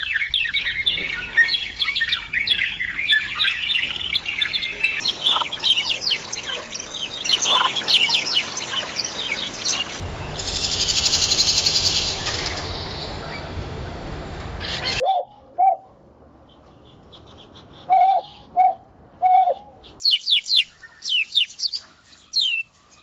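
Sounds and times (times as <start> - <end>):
songbirds chirping: 0.0 - 13.6, 14.6 - 23.0.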